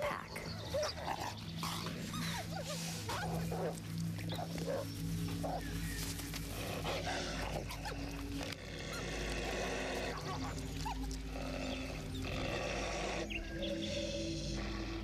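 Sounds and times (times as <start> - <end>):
background music: 0.0 - 15.0
wolves vocalising: 0.0 - 15.0.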